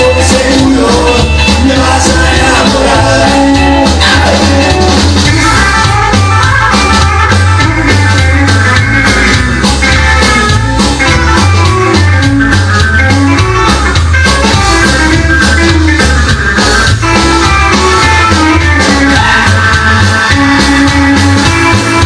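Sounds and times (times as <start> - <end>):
rockabilly music with guitar and drums: 0.0 - 22.0.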